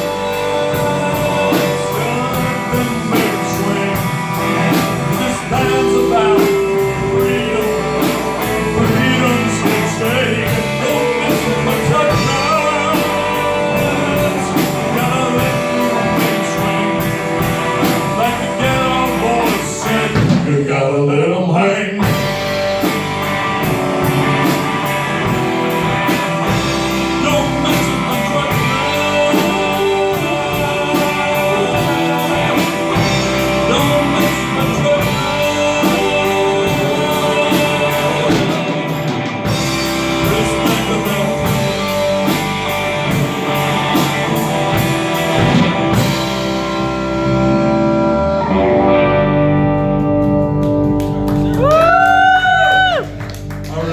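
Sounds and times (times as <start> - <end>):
drums keeping a steady beat: 0.0 - 20.9, 21.9 - 48.4, 49.4 - 53.9
electric guitar: 0.0 - 53.9
live rock band playing: 0.0 - 53.9.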